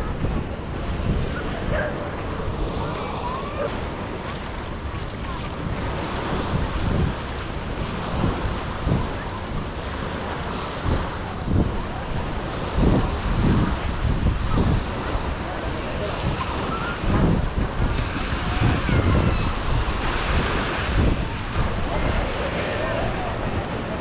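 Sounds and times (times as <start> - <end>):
wind buffeting microphone: 0.0 - 24.0
small surf washing on beach: 0.8 - 24.0.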